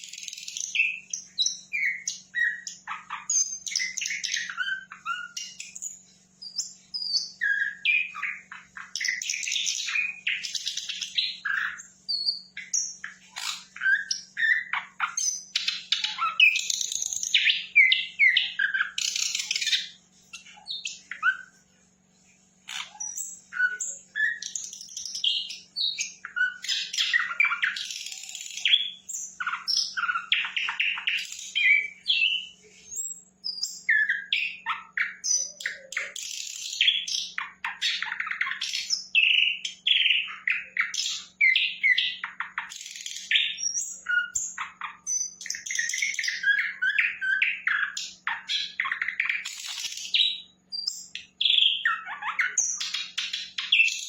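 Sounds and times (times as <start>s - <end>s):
flycatcher singing: 0.0s - 21.6s, 22.6s - 54.0s.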